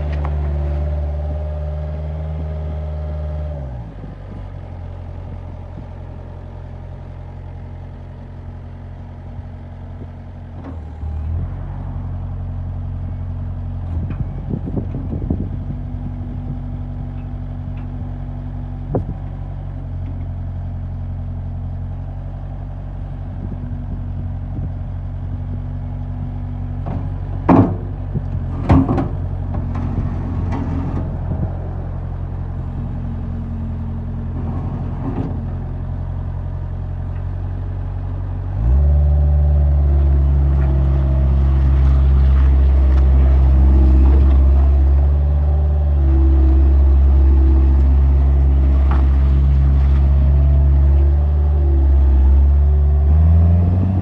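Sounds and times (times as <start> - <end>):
loader diesel engine running: 0.0 - 54.0.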